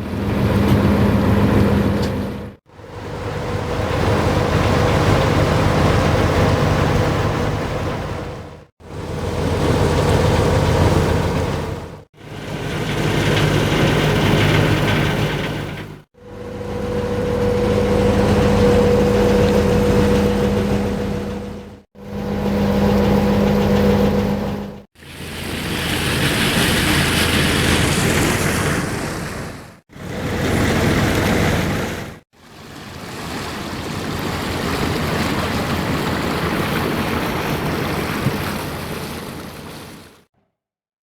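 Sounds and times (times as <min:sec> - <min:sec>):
engine drone: 0:00.0 - 0:40.1.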